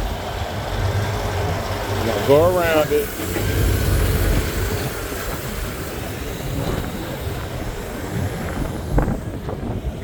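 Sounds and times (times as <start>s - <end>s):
outdoor background noise: 0.0s - 10.0s
wind buffeting microphone: 0.0s - 10.0s.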